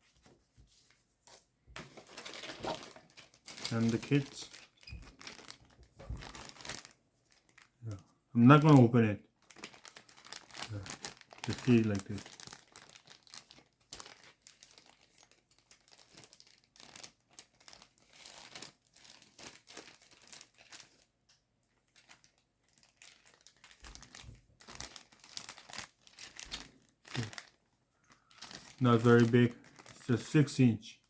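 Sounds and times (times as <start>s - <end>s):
plastic bag crinkling: 1.8s - 21.1s, 21.7s - 31.0s.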